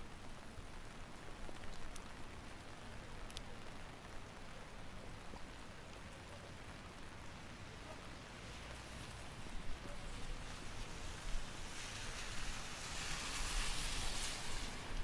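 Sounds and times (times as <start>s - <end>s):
rain on wet pavement: 0.0s - 15.0s.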